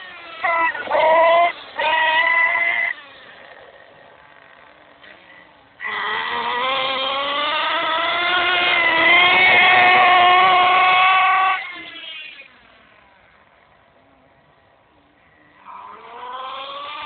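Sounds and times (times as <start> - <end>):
toy truck engine revving: 0.0 - 13.7, 15.4 - 17.0.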